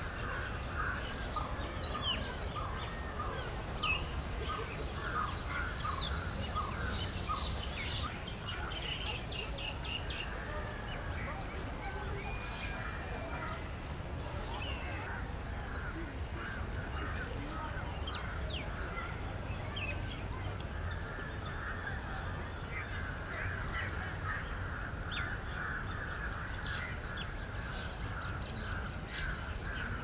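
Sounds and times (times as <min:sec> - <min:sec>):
birds calling and chirping: 0:00.0 - 0:30.0
high chatter: 0:00.0 - 0:30.0.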